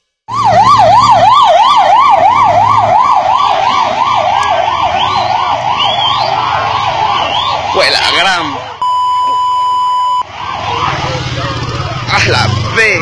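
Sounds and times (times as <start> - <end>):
siren yelping: 0.3 - 11.7.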